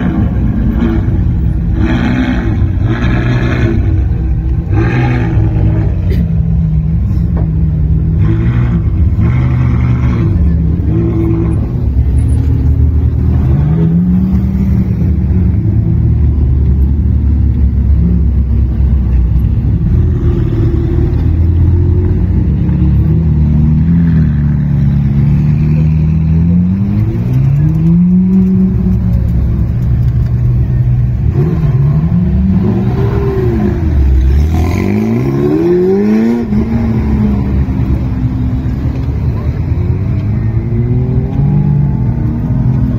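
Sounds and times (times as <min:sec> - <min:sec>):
sports car engines revving: 0:00.0 - 0:42.9.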